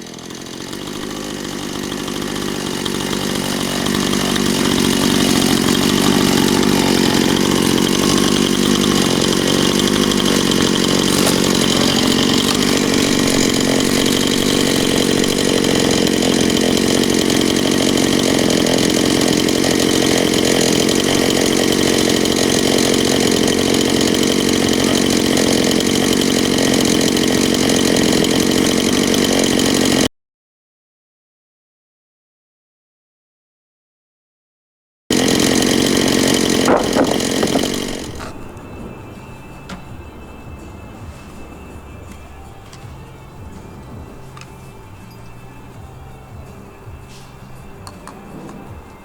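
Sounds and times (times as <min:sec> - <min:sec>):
chainsaw cutting through log: 0:00.0 - 0:30.1, 0:35.1 - 0:49.0.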